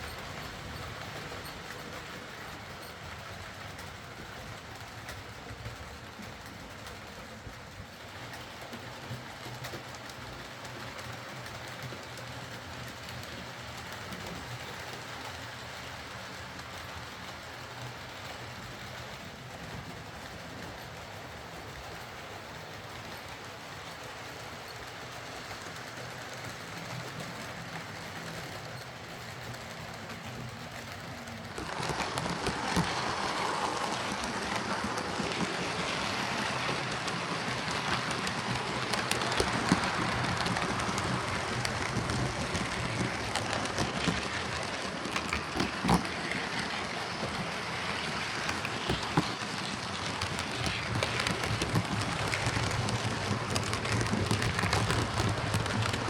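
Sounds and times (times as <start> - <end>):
wheels rattling and clicking on rail: 0.0 - 56.0.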